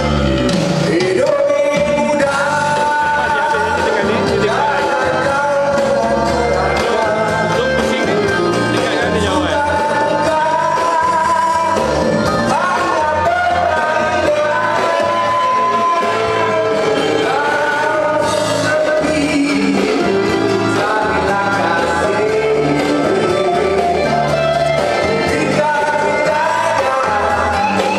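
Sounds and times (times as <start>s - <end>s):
backing music: 0.0s - 27.9s
man singing into a microphone: 0.8s - 27.9s.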